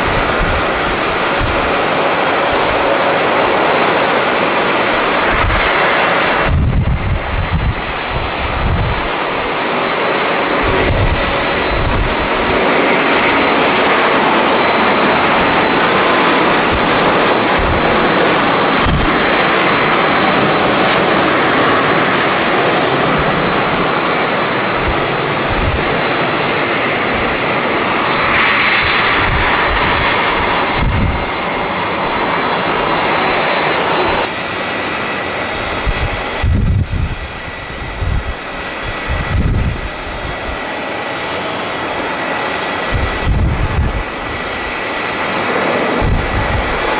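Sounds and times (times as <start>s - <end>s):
wind buffeting microphone: 0.0s - 34.4s, 35.0s - 40.9s, 42.3s - 46.9s
jet engines whining: 0.0s - 46.9s.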